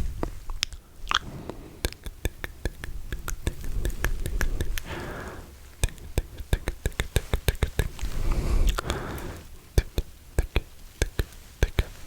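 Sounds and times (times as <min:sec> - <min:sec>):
tongue and lip clicks: 0:00.2 - 0:12.0
breathy hiss: 0:00.8 - 0:12.0.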